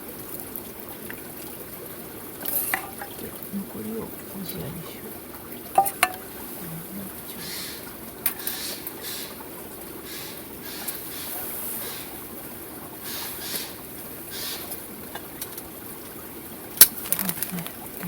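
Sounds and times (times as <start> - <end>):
soup simmering: 0.0 - 18.0.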